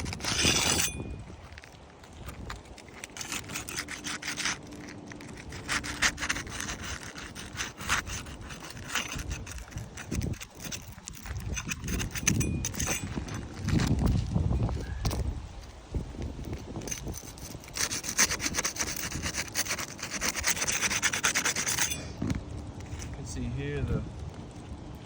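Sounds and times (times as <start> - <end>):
scraping on roof shingles: 0.0 - 14.5, 16.3 - 22.5.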